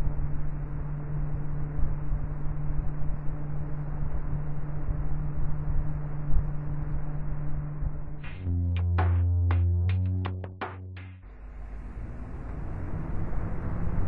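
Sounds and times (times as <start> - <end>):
cooling fan running: 0.0 - 14.0.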